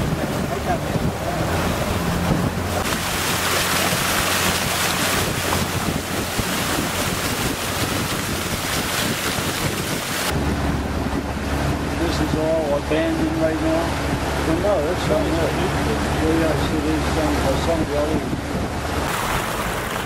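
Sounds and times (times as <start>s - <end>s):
motorboat engine running: 0.0s - 20.0s
water rushing past hull: 0.0s - 20.0s
wind buffeting microphone: 0.0s - 20.0s.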